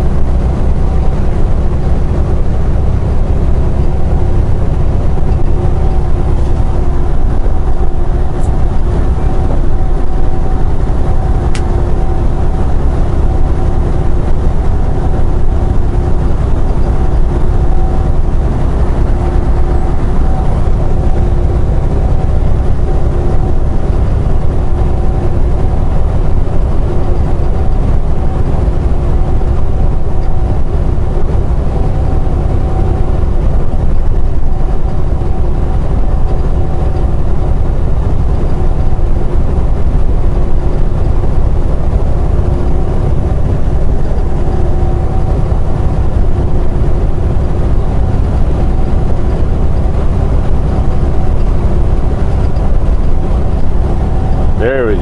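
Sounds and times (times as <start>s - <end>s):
constant hum: 0.0s - 55.0s
truck engine drone: 0.0s - 55.0s
road noise: 0.9s - 40.5s, 41.2s - 55.0s.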